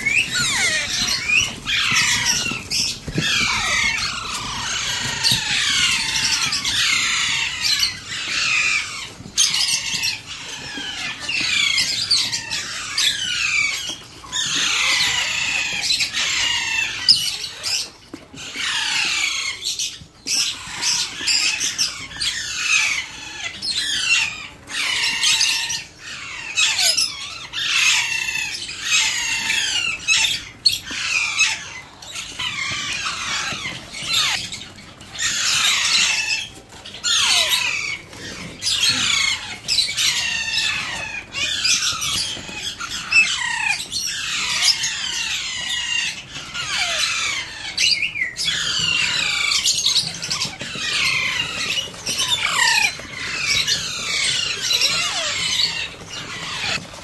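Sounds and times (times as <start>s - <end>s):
parakeet chicks begging squawks: 0.0s - 57.0s.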